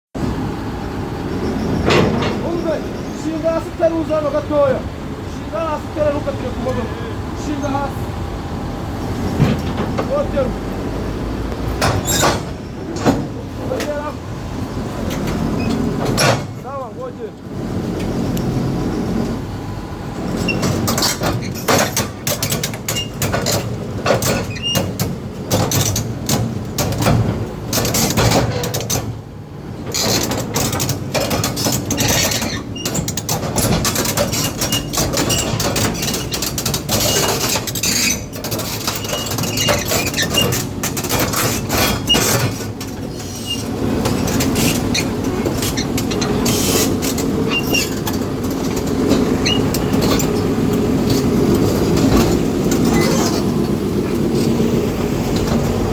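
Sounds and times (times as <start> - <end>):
excavator diesel engine under load: 0.2 - 55.9.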